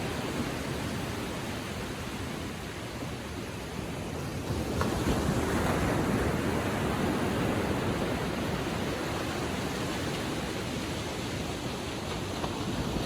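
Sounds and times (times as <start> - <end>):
ocean waves washing on beach: 0.0 - 13.0.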